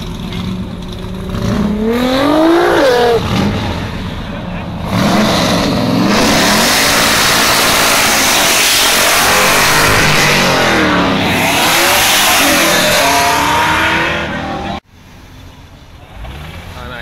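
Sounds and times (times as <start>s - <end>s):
car engine revving: 0.0s - 14.8s.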